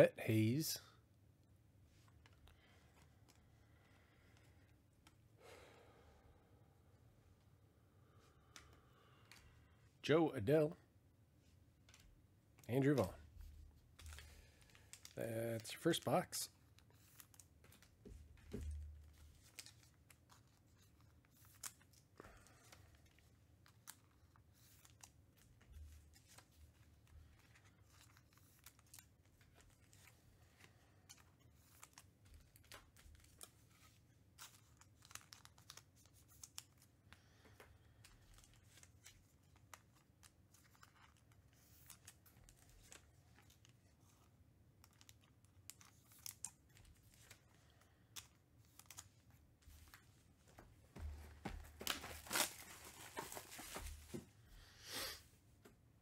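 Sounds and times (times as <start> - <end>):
cards and packaging handled: 1.8 - 5.3, 11.4 - 54.6.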